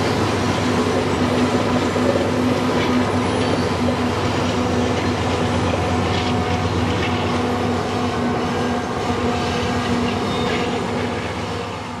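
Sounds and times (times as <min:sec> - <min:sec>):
freight train rumbling on bridge: 0:00.0 - 0:12.0.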